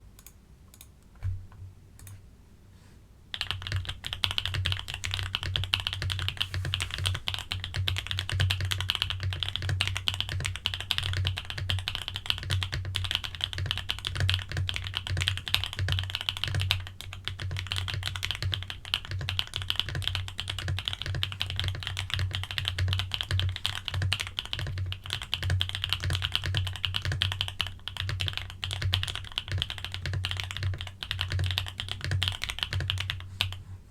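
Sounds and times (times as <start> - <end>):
mechanical keyboard typing: 3.3 - 33.6.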